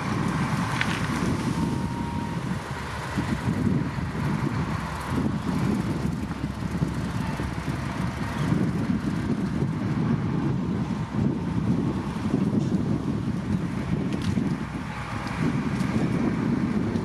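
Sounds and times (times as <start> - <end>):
heavy machinery engine rumble: 0.0 - 17.0.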